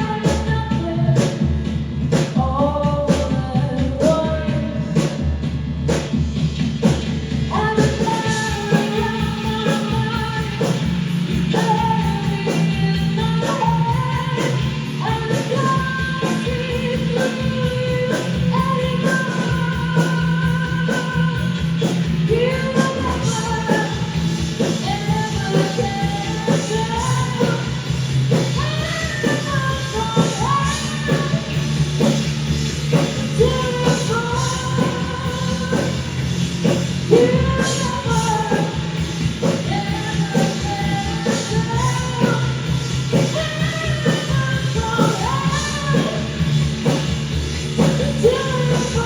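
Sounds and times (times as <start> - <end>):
rock band playing live: 0.0 - 49.0.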